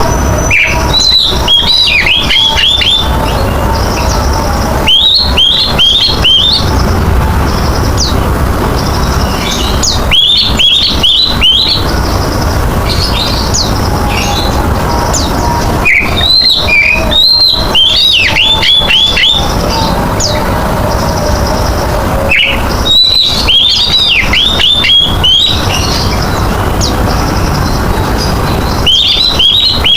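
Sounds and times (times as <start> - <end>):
bird singing: 0.0 - 29.9
steady low rumble: 0.0 - 29.9.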